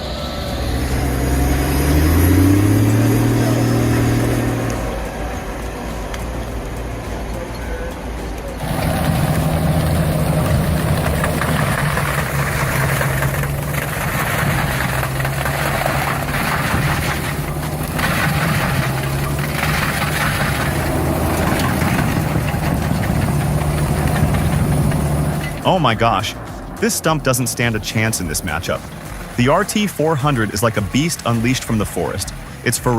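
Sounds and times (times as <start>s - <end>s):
cutter wheel grinding stump: 0.0s - 7.3s, 8.3s - 32.9s
stump grinder engine running: 0.0s - 7.6s, 8.3s - 32.9s.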